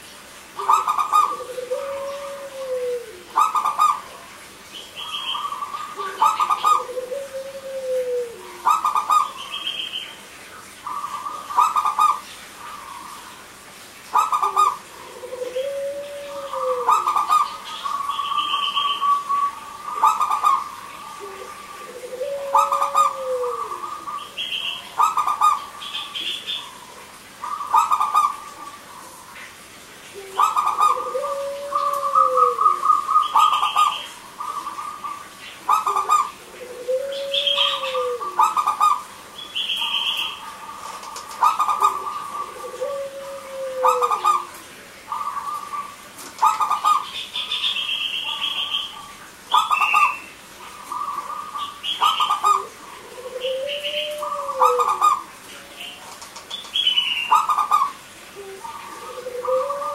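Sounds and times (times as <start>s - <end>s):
dove cooing: 0.6s - 4.3s, 5.0s - 9.8s, 10.8s - 13.3s, 14.1s - 29.3s, 30.1s - 59.9s.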